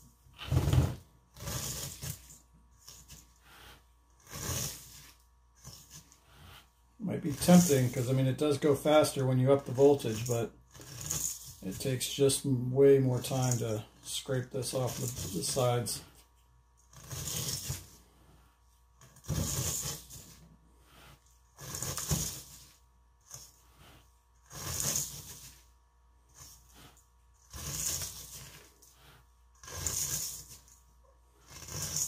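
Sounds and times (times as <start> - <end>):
spatula scraping crystals in metal bowl: 1.4 - 16.0, 16.8 - 18.0, 19.0 - 25.7, 26.3 - 30.8, 31.4 - 32.0.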